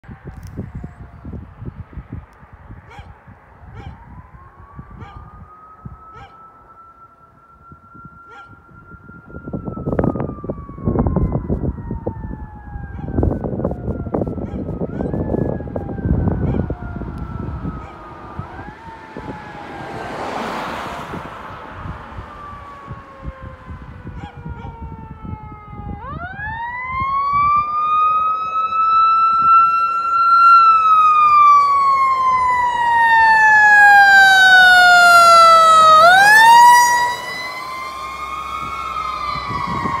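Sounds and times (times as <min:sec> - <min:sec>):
fire truck siren wailing: 0:00.0 - 0:40.0.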